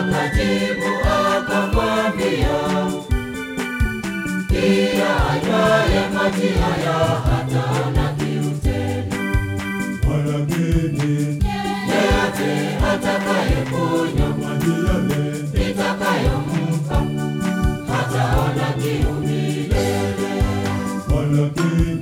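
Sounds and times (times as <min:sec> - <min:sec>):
choir singing in harmony: 0:00.0 - 0:03.6, 0:04.2 - 0:22.0.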